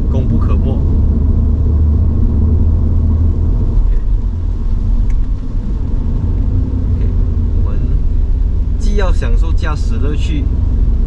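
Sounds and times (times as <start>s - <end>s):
car engine droning while driving: 0.0s - 11.0s
road noise: 0.0s - 11.0s.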